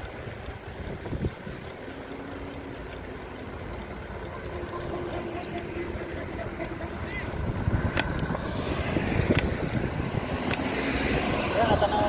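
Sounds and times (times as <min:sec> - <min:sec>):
wind rumbling on microphone: 0:00.0 - 0:02.0, 0:04.1 - 0:12.0
bicycle tyres on paved road: 0:00.0 - 0:12.0
faint traffic engine hum: 0:00.0 - 0:12.0.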